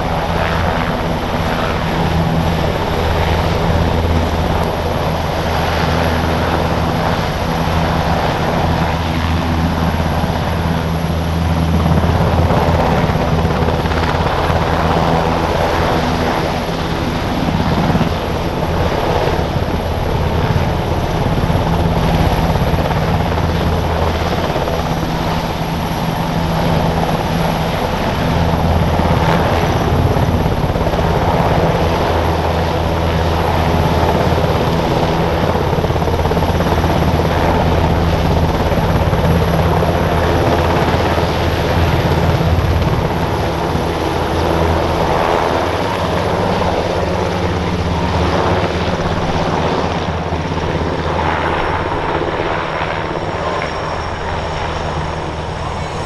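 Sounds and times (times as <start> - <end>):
helicopter rotor and engine noise: 0.0 - 56.0.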